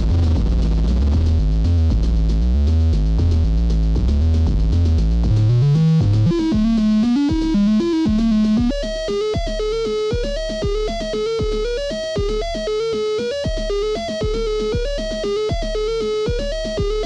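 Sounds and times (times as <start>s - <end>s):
analog synth sequenced notes: 0.0s - 17.0s.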